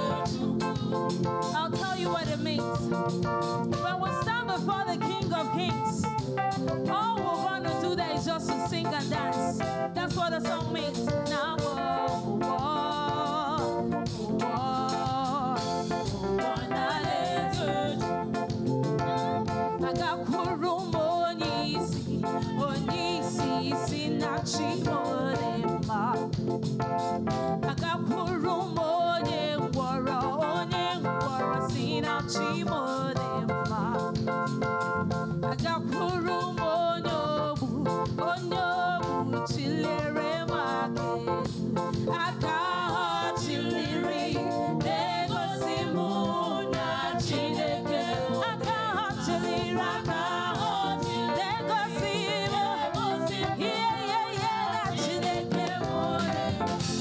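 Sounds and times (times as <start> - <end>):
keyboard: 0.0 - 57.0
percussion rhythm: 0.0 - 57.0
voices singing gospel: 0.0 - 57.0.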